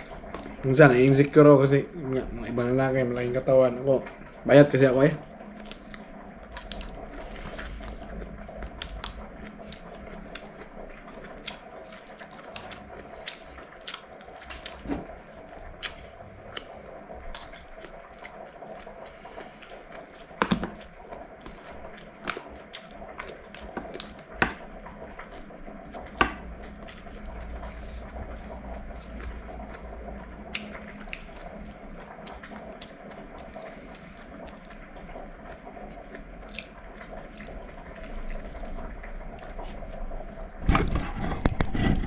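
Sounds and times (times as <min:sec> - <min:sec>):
person chewing: 0:00.0 - 0:00.8, 0:05.4 - 0:42.0
steady low hum: 0:00.0 - 0:42.0.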